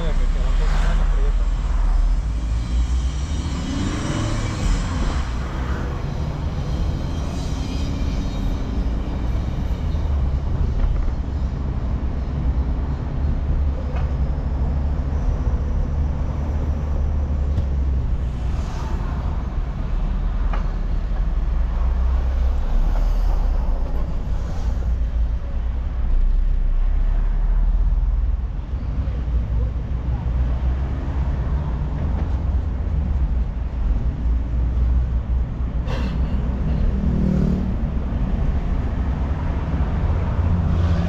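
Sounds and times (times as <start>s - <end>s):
car road and engine rumble: 0.0s - 41.0s.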